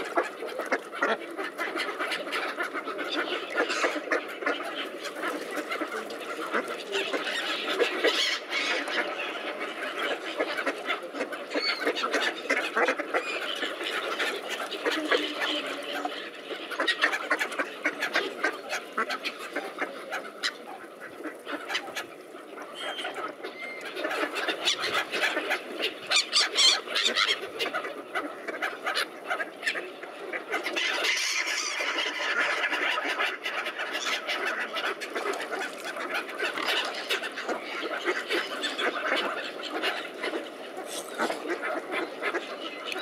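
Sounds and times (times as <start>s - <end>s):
waterfowl calls: 0.0s - 43.0s.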